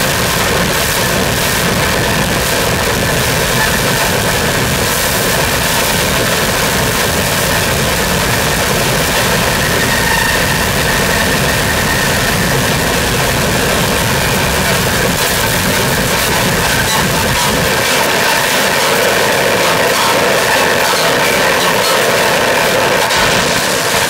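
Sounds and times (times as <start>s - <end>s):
dense distorted noise music: 0.0s - 24.0s.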